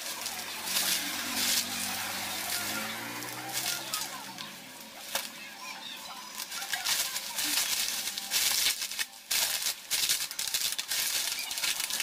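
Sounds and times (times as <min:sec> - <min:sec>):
bubble wrap crinkling: 0:00.0 - 0:05.4, 0:06.2 - 0:12.0.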